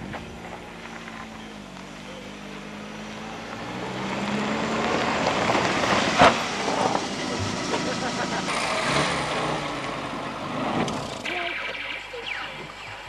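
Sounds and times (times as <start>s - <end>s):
car engine running: 0.0s - 13.0s
tyre noise on road: 0.0s - 13.0s.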